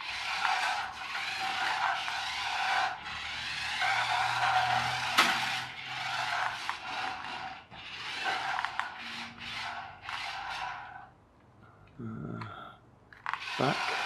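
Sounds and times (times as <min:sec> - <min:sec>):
toy car motors whirring: 0:00.0 - 0:11.1, 0:13.1 - 0:14.0.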